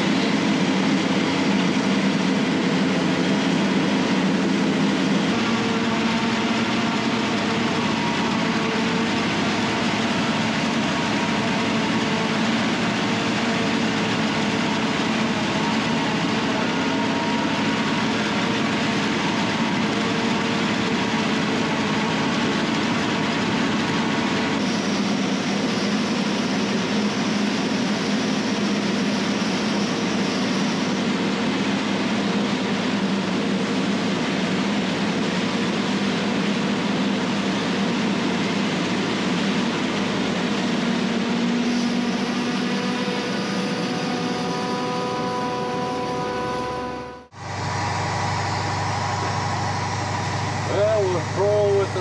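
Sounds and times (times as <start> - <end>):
forage harvester running: 0.0 - 52.0.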